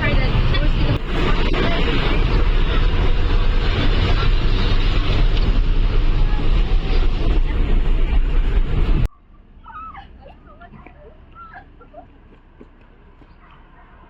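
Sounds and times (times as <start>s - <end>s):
vehicle rumble and road noise: 0.0s - 14.0s.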